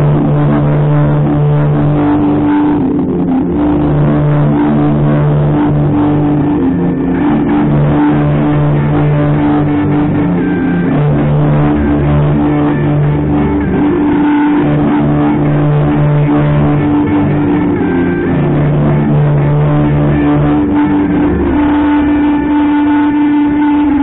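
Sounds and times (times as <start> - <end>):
guitar background music: 0.0 - 24.0.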